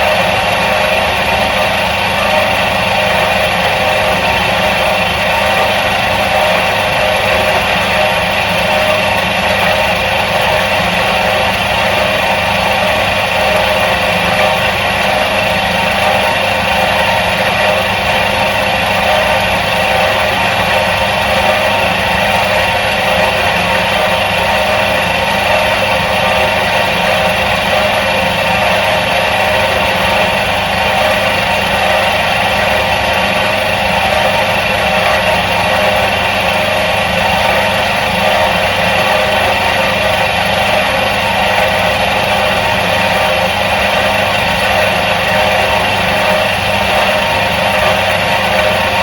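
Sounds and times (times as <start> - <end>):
washing machine motor running: 0.0 - 49.0.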